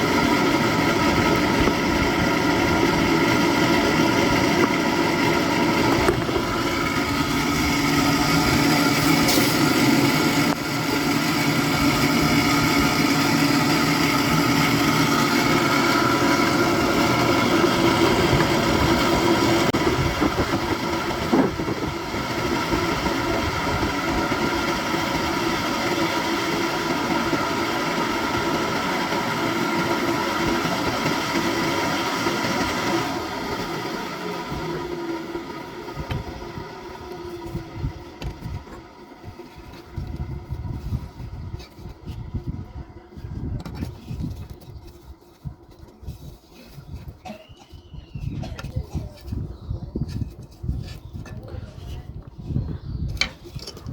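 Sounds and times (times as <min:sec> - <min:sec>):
machine running: 0:00.0 - 0:46.7.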